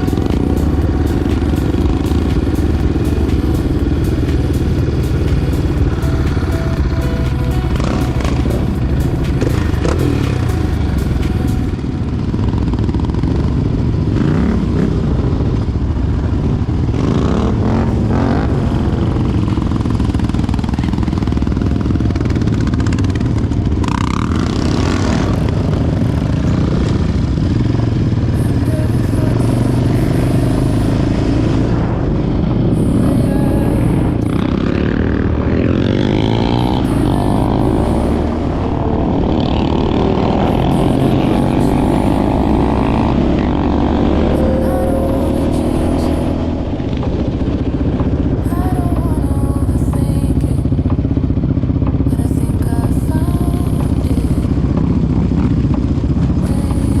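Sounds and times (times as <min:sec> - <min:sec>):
quad engine running: 0:00.0 - 0:57.0.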